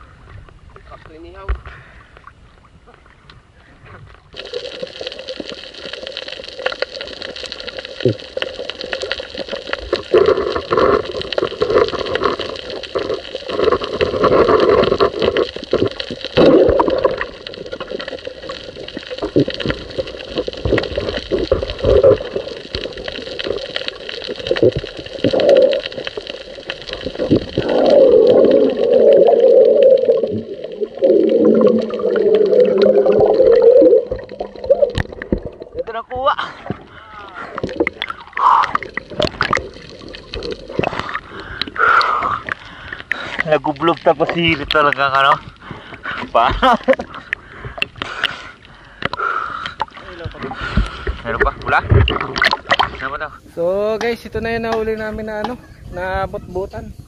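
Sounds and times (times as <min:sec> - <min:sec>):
underwater rushing water: 0:02.1 - 0:55.8.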